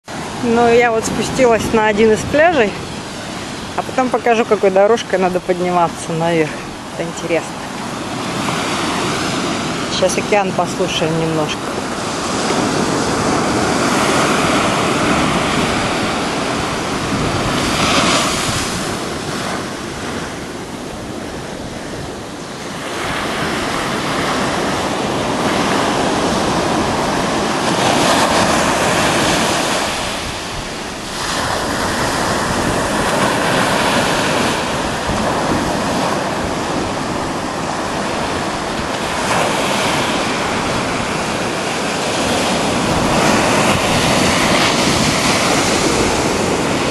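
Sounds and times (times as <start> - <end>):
wind on microphone: 0.0 - 46.9
surf breaking on a beach: 0.1 - 46.9.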